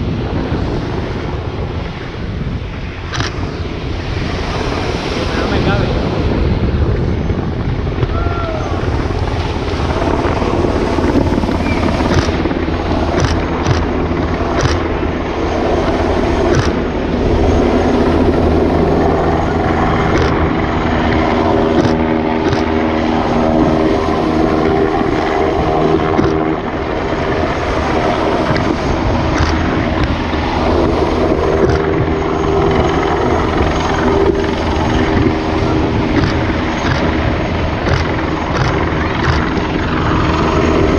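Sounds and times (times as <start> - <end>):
helicopter rotor and turbine: 0.0 - 40.9.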